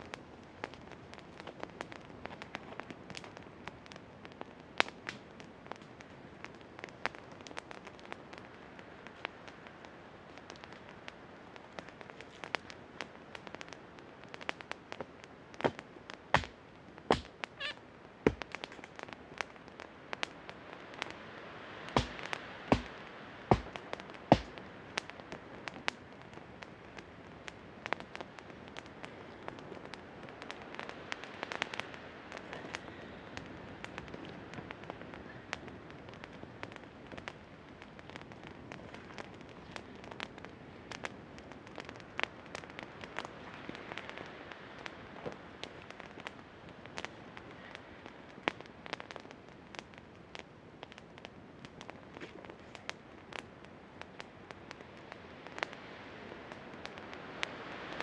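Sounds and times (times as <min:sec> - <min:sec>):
campfire crackling and popping: 0:00.0 - 0:58.0
fire hiss: 0:00.0 - 0:58.0.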